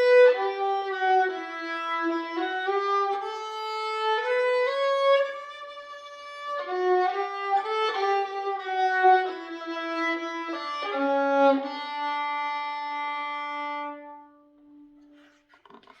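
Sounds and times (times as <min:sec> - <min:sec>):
solo violin slow melody: 0:00.0 - 0:15.2.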